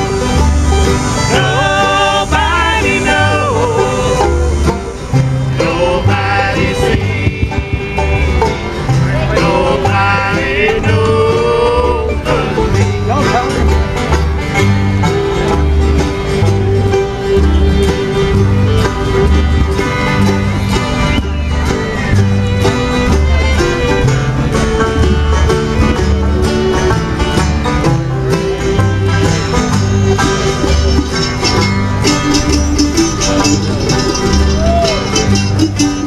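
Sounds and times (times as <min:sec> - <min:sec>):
bass line: 0:00.0 - 0:36.0
picked string notes: 0:00.0 - 0:36.0.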